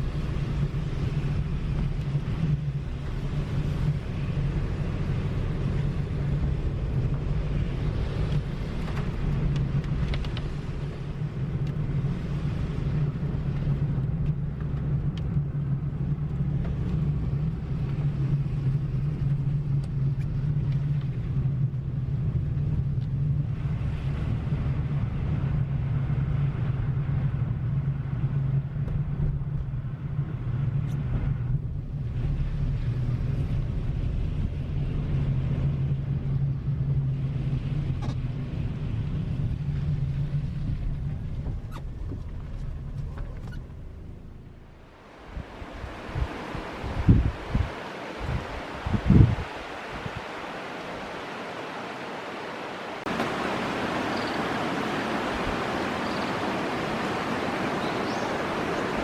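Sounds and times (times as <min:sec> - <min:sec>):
car engine drone: 0:00.0 - 0:59.0
road noise: 0:00.0 - 0:59.0.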